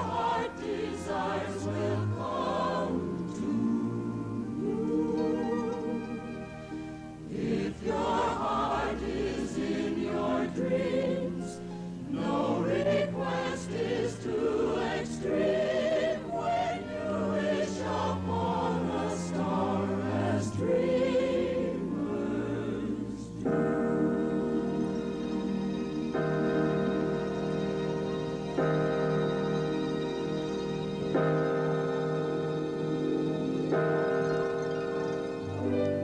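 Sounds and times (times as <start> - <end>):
choir singing wordless melody: 0.0 - 36.0
orchestral accompaniment: 0.0 - 36.0.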